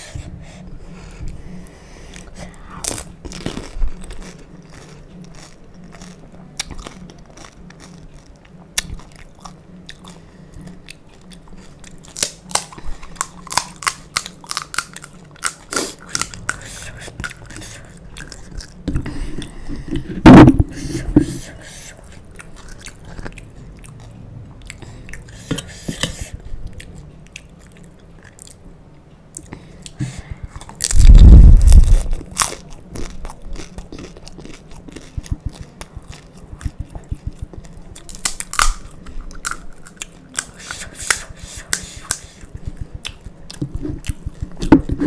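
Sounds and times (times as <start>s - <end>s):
crunchy chewing: 2.1s - 20.2s, 21.0s - 28.6s, 29.4s - 45.0s.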